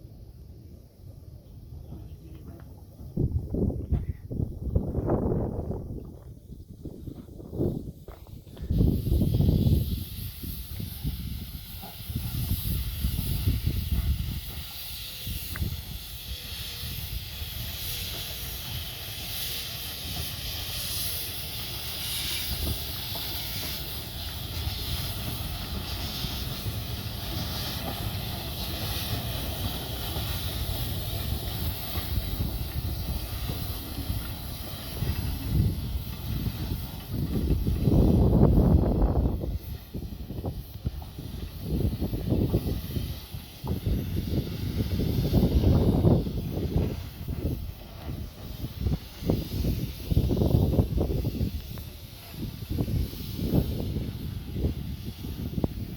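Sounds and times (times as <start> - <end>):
steam hissing: 0.0 - 55.9.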